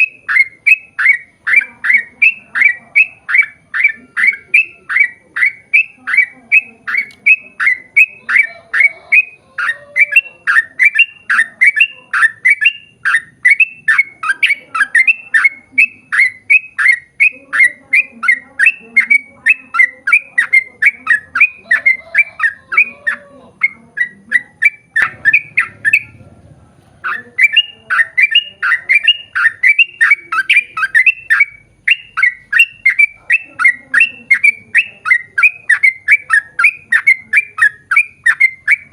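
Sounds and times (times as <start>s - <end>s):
bulbul singing rapid notes: 0.0s - 26.4s, 27.0s - 38.9s.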